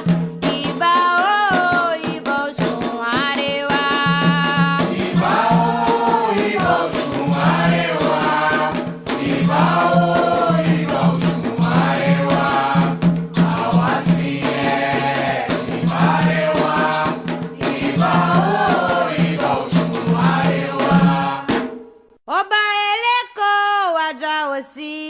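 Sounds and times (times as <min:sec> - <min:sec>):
hand percussion: 0:00.0 - 0:21.9
pulsing drum beat: 0:00.0 - 0:21.9.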